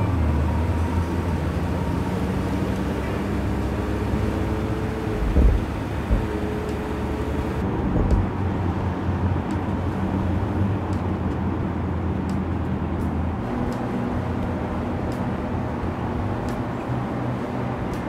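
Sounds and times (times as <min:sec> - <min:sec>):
car engine hum: 0:00.0 - 0:18.0
tyre and road noise: 0:00.0 - 0:18.0.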